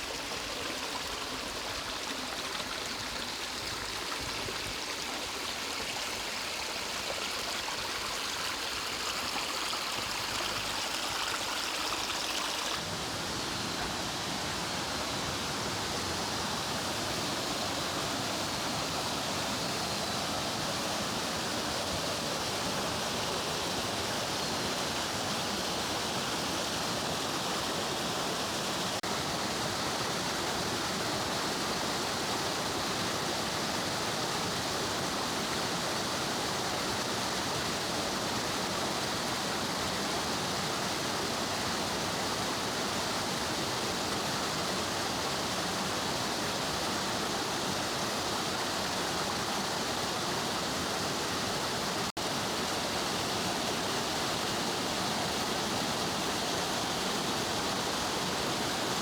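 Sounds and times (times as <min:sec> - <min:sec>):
stream water over rocks: 0:00.0 - 0:59.0.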